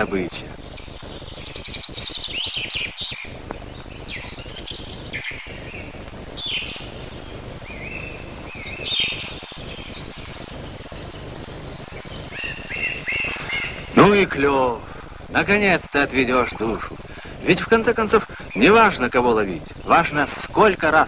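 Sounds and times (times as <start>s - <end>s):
songbirds chirping and singing: 0.0s - 21.0s
steady hiss: 0.0s - 21.0s.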